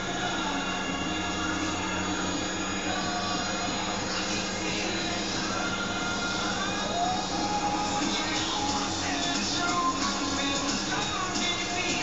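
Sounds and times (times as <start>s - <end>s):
music from a tv speaker: 0.0s - 12.0s.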